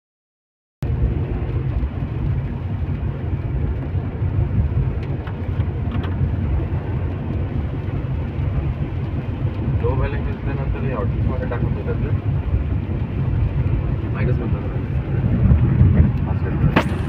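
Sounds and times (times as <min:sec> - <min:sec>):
car cabin rumble: 0:00.8 - 0:17.0.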